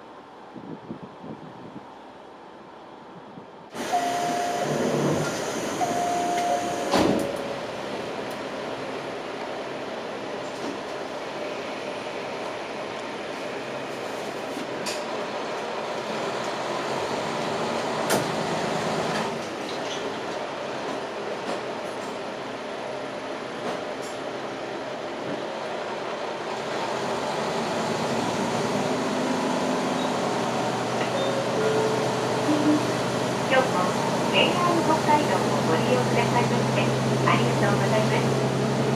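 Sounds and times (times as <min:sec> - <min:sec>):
diesel railcar rumble: 0:00.0 - 0:38.9.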